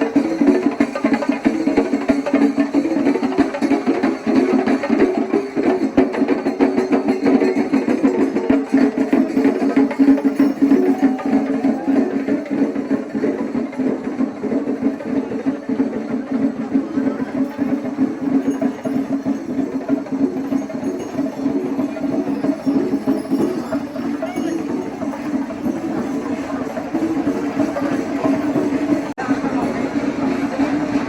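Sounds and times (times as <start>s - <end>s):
rapid dense drumming: 0.0s - 31.0s.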